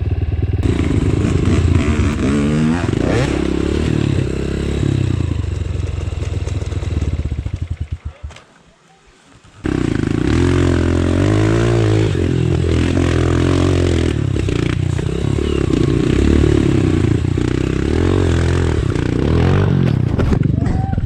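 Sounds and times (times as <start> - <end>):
motorcycle engine revving: 0.0 - 8.3, 9.6 - 20.6.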